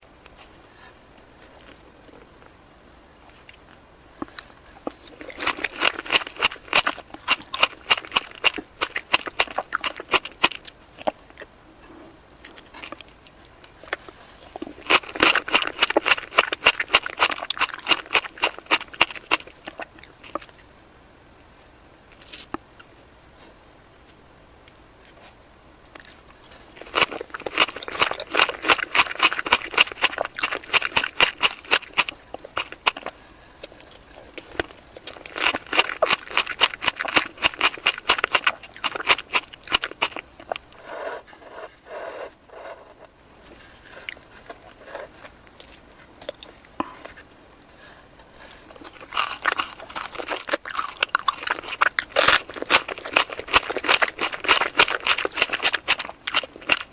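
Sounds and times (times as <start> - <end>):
wet chewing sounds: 3.2 - 20.8, 25.1 - 42.1, 43.5 - 56.9.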